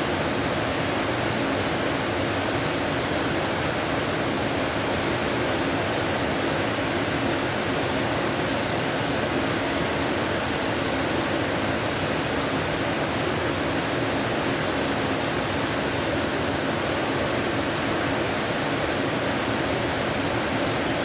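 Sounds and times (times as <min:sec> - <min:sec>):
flooded stream rushing: 0:00.0 - 0:21.0
heavy rain pouring: 0:00.0 - 0:21.0.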